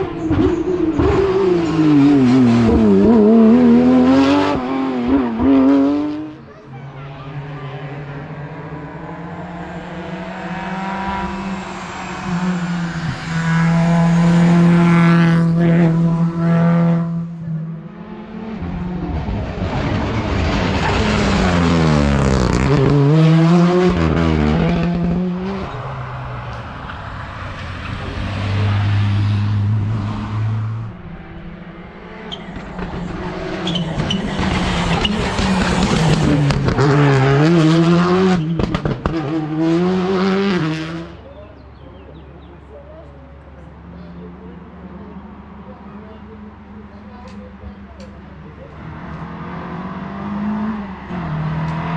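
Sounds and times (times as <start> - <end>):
rally car engines at full throttle: 0.0 - 51.9.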